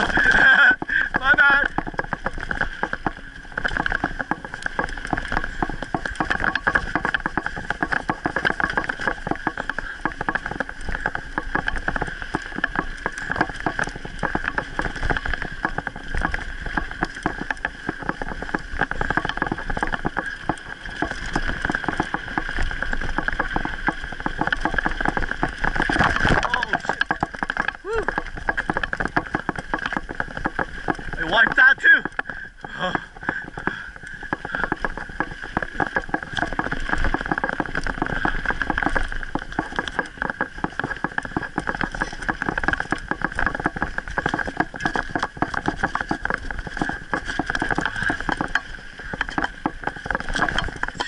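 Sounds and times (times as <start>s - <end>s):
mountain bike rattling over dirt: 0.0s - 51.0s.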